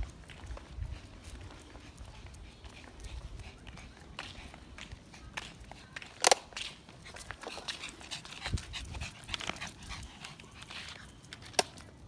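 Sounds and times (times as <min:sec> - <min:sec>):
small dog panting: 0:00.5 - 0:11.2.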